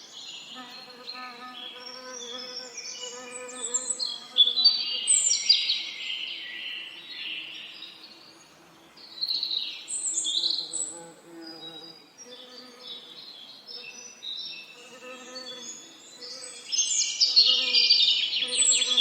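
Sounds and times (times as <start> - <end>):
songbirds chirping and trilling: 0.0 - 19.0
faint buzzing of bees: 0.2 - 5.2, 7.8 - 19.0.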